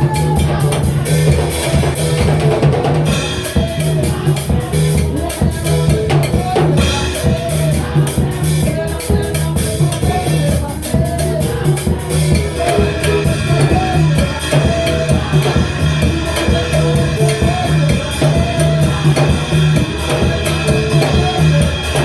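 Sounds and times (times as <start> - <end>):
drum kit beat with cymbals: 0.0 - 22.0
held bass notes: 0.0 - 22.0.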